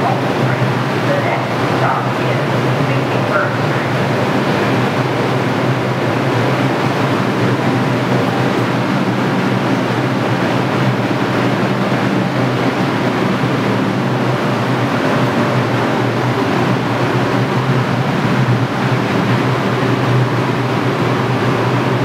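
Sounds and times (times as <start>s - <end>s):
subway train equipment humming: 0.0s - 22.0s.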